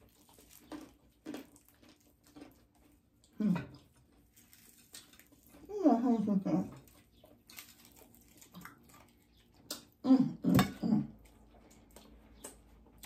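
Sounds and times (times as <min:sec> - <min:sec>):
chewing fried food: 0:00.0 - 0:10.0, 0:10.6 - 0:13.0.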